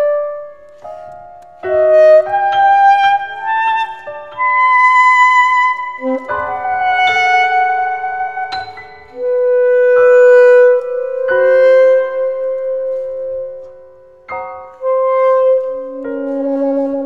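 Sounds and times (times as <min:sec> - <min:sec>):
piano chords: 0:00.0 - 0:17.0
saxophone holding long notes: 0:01.1 - 0:13.8, 0:14.4 - 0:17.0.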